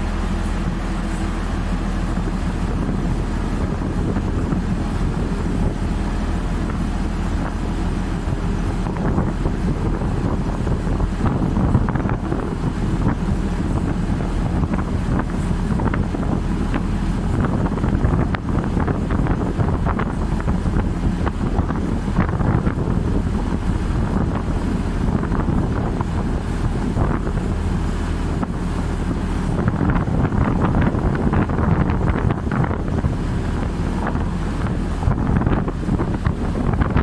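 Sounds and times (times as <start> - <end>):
boat engine running: 0.0 - 37.0
wind buffeting microphone: 0.0 - 37.0.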